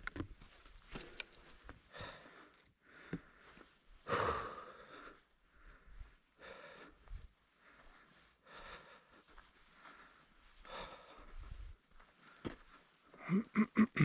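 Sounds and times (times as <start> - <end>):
person breathing heavily: 0.9 - 14.0.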